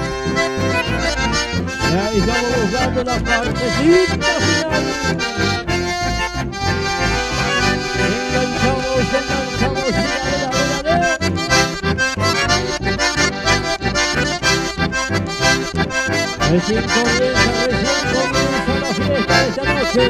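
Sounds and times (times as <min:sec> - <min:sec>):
accordion: 0:00.0 - 0:20.0
electric bass: 0:00.0 - 0:20.0
guitar: 0:00.0 - 0:20.0.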